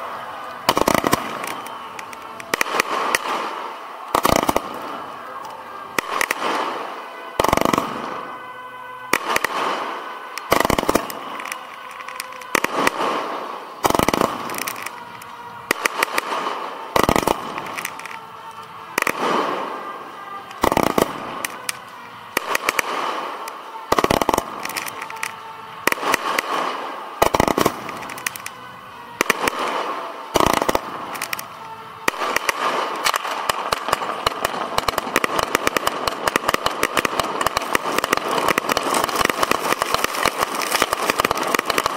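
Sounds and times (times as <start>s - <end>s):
fireworks bangs: 0.0s - 41.9s
fireworks crackling: 0.0s - 41.9s.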